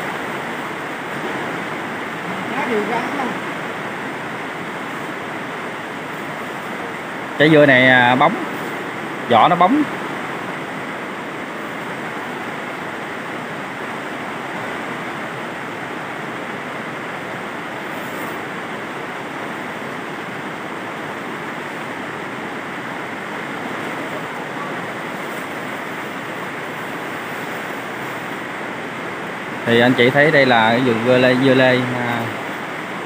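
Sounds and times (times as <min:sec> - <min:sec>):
rain on plastic roof: 0:00.0 - 0:08.5, 0:09.2 - 0:09.8, 0:12.9 - 0:33.0.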